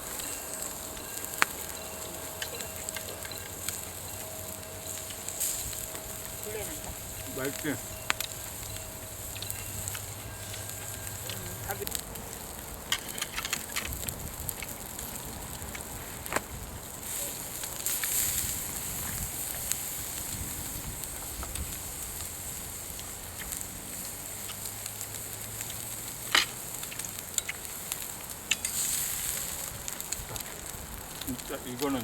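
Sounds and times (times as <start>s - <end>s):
fire crackling and popping: 0.0s - 32.0s
steady fire hiss: 0.0s - 32.0s.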